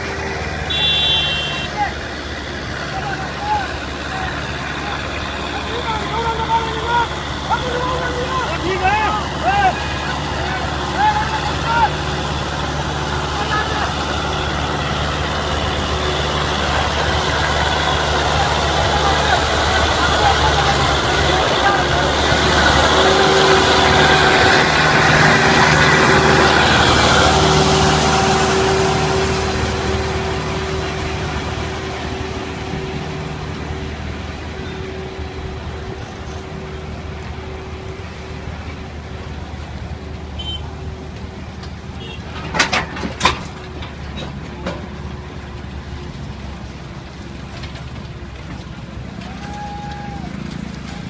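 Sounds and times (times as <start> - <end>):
tractor diesel engine: 0.0 - 51.0
trailers rolling by: 0.0 - 51.0.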